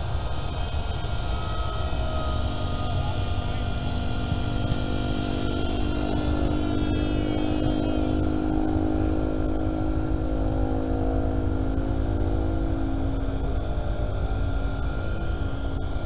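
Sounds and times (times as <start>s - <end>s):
model airplane motor buzzing: 0.0s - 16.0s.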